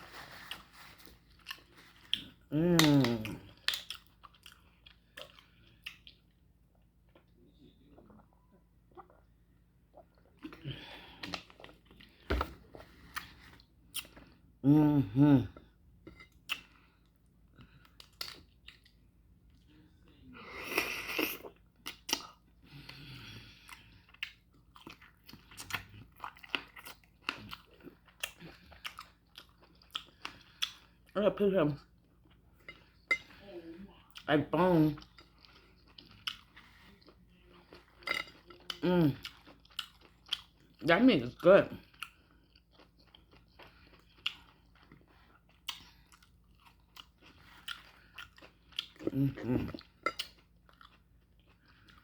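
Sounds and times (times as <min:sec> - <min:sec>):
person chewing: 0:00.0 - 0:08.2, 0:09.9 - 0:19.0, 0:20.6 - 0:31.2, 0:34.0 - 0:40.8, 0:41.8 - 0:52.0.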